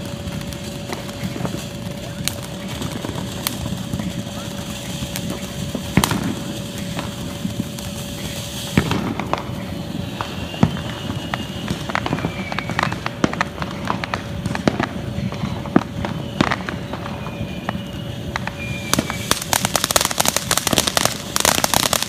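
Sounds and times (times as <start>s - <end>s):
ground fountain firework hissing: 0.0s - 22.0s
sharp crackling pops: 0.0s - 22.0s.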